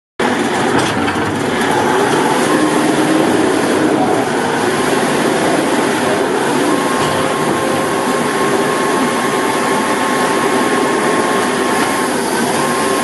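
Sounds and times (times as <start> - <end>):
concrete mixer truck running: 0.2 - 13.0.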